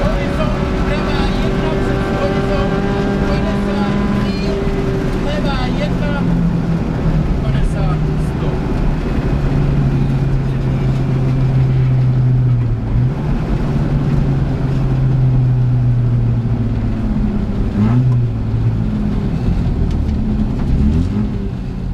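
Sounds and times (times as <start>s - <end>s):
car engine running hard: 0.0s - 21.9s.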